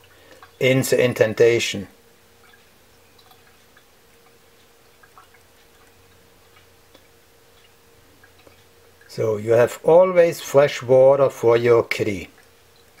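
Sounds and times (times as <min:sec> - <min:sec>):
small pump humming: 0:00.0 - 0:13.0
water ticks and drips: 0:00.0 - 0:13.0.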